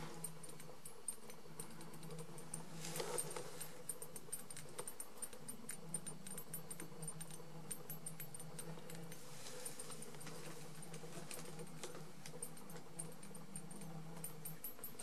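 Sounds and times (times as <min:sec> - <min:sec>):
fluorescent lamp ballast humming: 0:00.0 - 0:15.0.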